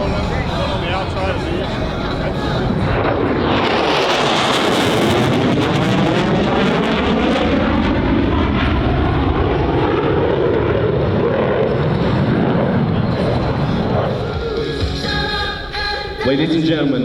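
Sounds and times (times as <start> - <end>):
jets flying past: 0.0 - 16.2.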